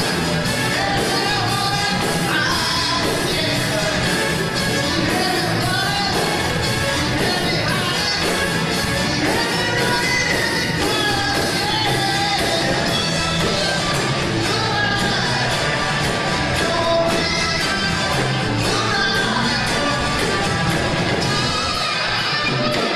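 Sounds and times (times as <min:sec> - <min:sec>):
drum beat: 0:00.0 - 0:22.9
live band playing: 0:00.0 - 0:22.9
person singing: 0:00.0 - 0:22.9.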